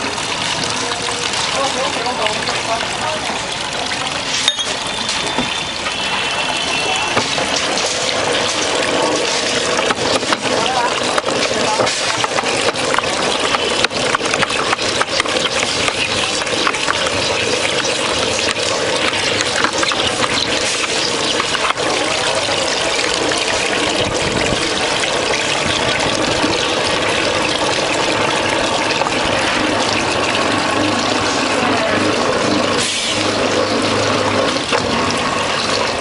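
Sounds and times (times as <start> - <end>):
coolant splashing: 0.0 - 36.0.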